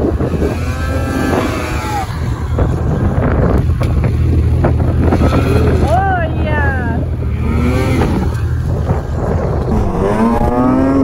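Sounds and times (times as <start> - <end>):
snowmobile engine revving: 0.0 - 11.0
wind rumble on microphone: 0.0 - 11.0.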